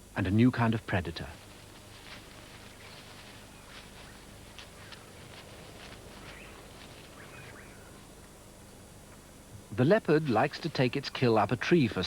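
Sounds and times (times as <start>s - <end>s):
faint bush ambience: 0.0s - 12.0s.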